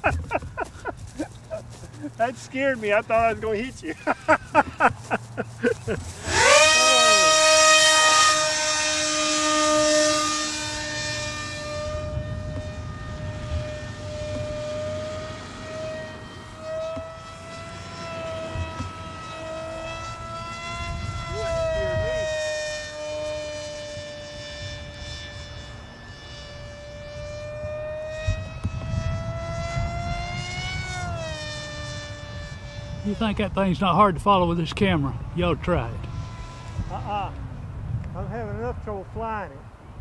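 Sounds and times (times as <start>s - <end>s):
model airplane motor whine: 0.0s - 38.7s.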